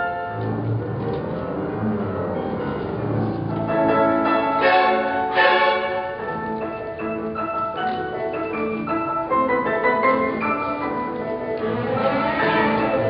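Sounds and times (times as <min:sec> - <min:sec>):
violins and double bass: 0:00.0 - 0:07.4, 0:09.7 - 0:13.0
piano playing: 0:00.0 - 0:13.0.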